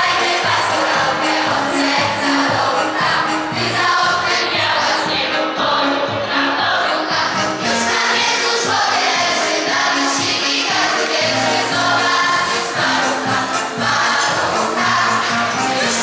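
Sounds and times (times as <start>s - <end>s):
choir singing a carol: 0.0s - 16.0s.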